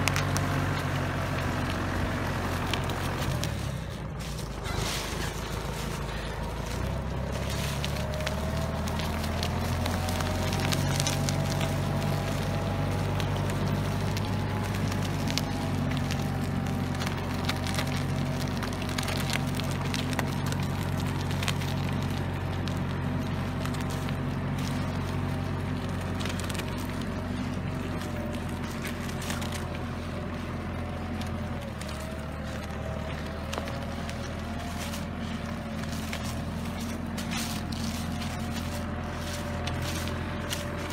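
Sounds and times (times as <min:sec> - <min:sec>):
log dragging over mud: 0:00.0 - 0:40.9
quad bike engine running: 0:00.0 - 0:40.9
wood crackling and snapping: 0:00.0 - 0:40.9.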